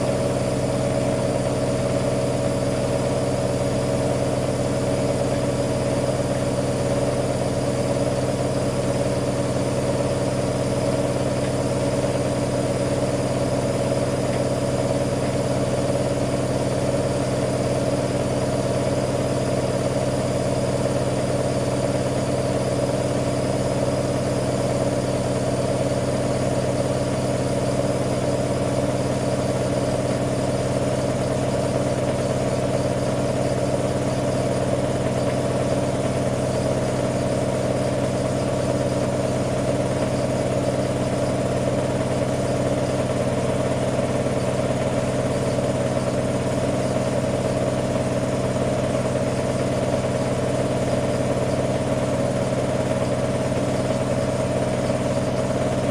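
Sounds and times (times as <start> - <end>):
washer-dryer humming: 0.0 - 55.9.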